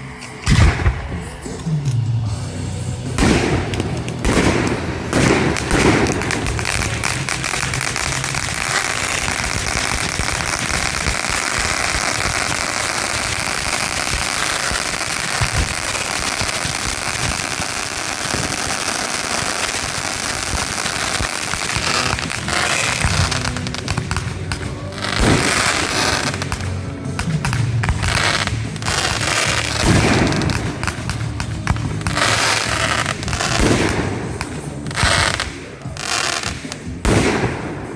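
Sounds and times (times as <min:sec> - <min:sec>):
fireworks crackling: 0:00.0 - 0:37.9
fireworks booms: 0:00.2 - 0:37.9.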